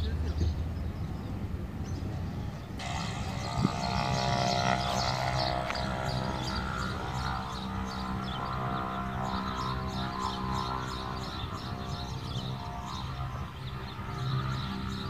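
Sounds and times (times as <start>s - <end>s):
propeller aircraft engine droning: 0.1s - 15.0s.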